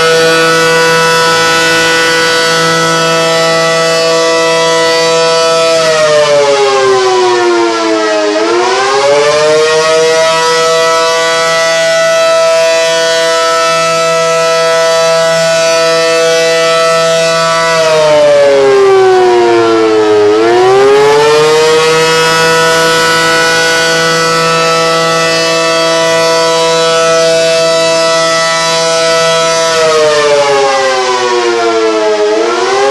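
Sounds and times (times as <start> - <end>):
outdoor warning siren: 0.0 - 32.9.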